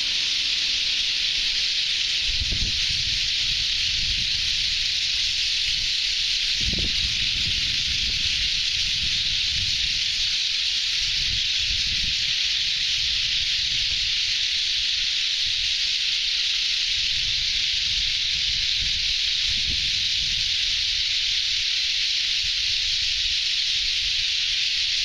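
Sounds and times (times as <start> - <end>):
wind rumble on microphone: 0.0 - 15.8, 16.7 - 25.0
flock of small birds calling: 0.0 - 25.0.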